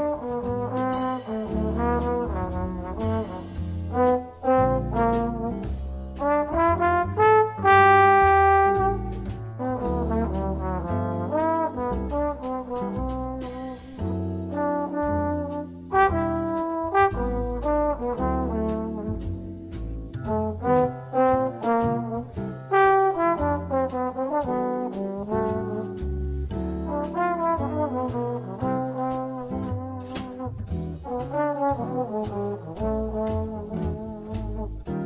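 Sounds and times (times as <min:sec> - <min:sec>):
instrumental background music: 0:00.0 - 0:35.0.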